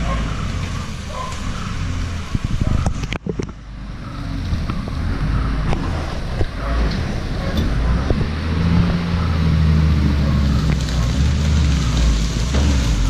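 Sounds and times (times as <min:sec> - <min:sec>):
diesel truck engine droning: 0:00.0 - 0:13.0.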